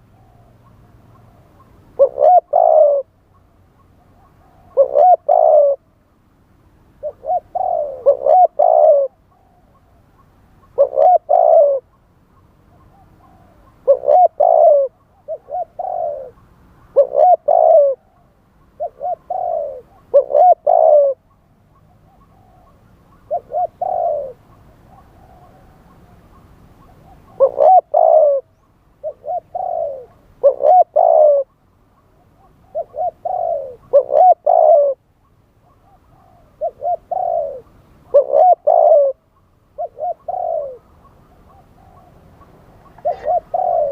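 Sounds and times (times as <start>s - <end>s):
dove cooing: 0.0s - 6.0s, 7.0s - 43.9s.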